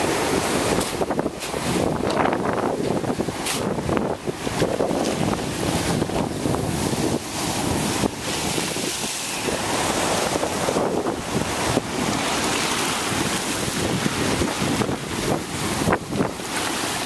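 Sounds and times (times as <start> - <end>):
ocean surf washing over rocks: 0.0 - 17.0
wind buffeting microphone: 0.0 - 17.0.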